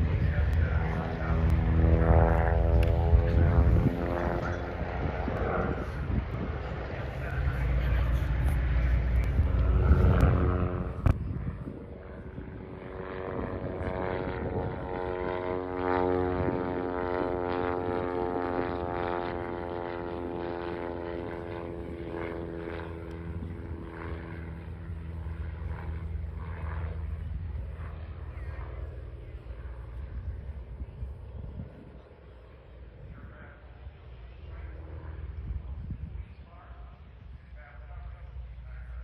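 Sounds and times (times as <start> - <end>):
propeller aircraft engine droning: 0.0 - 39.0.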